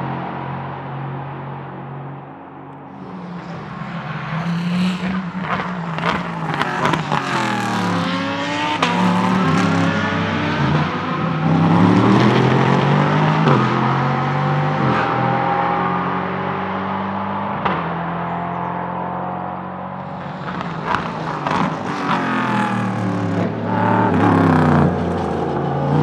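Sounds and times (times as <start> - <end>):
race car engine downshifting: 2.8 - 26.0
race car engine accelerating: 2.9 - 26.0.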